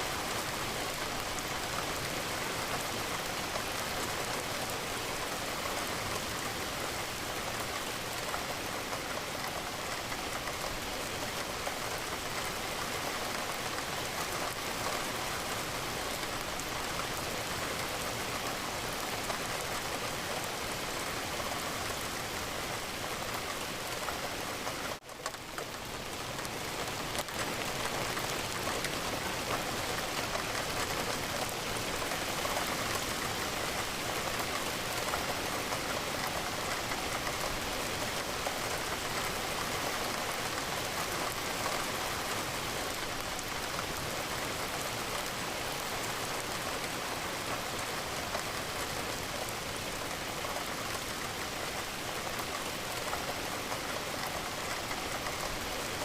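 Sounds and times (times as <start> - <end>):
rain falling against a window: 0.0 - 56.0.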